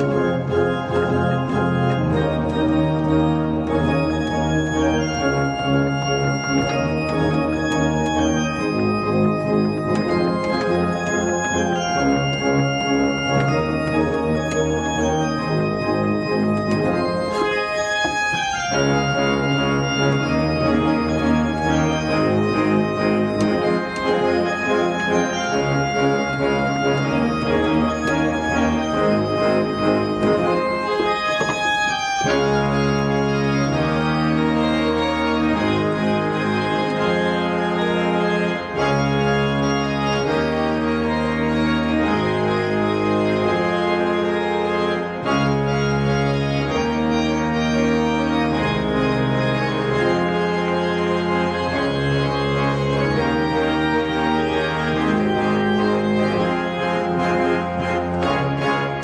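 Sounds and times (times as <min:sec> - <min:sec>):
organ playing held chords: 0:00.0 - 0:59.0.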